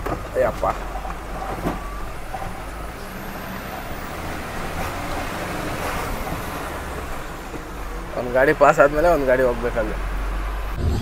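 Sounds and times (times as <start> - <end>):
road noise: 0.0 - 11.0
truck diesel engine running: 0.0 - 11.0.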